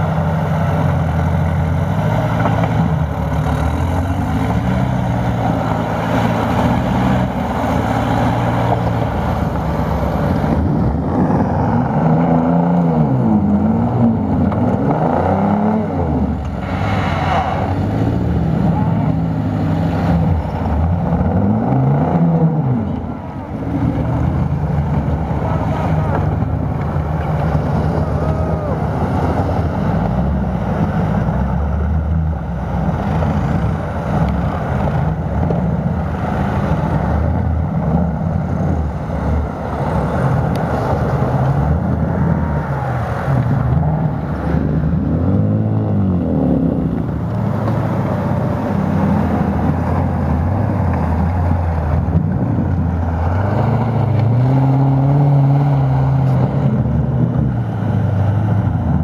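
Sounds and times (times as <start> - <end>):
off-road engines revving: 0.0 - 59.0
vehicles churning through mud: 0.0 - 59.0.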